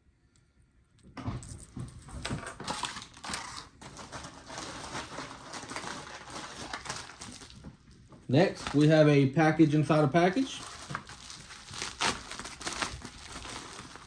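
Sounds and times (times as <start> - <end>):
plastic packaging crinkling: 2.3 - 14.0.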